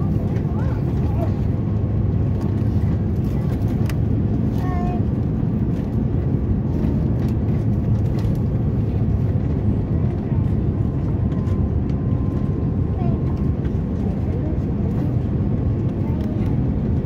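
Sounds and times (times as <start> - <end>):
airplane cabin roar: 0.0 - 17.0.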